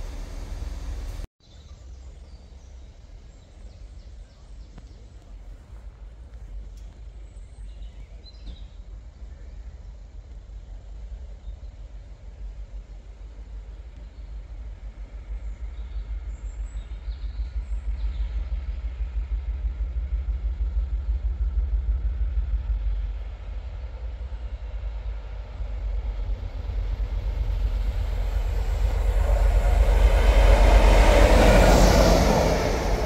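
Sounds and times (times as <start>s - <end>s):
diesel train rumbling: 0.0s - 1.3s, 2.0s - 33.0s
wheel on rail rush: 0.0s - 33.0s.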